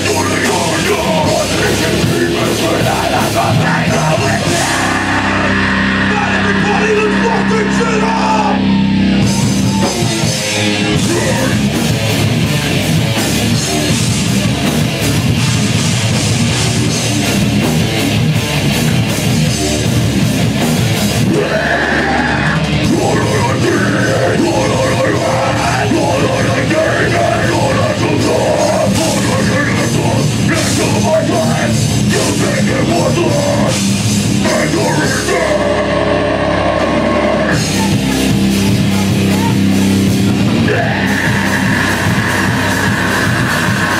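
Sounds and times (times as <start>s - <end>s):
live heavy metal band: 0.0s - 43.9s.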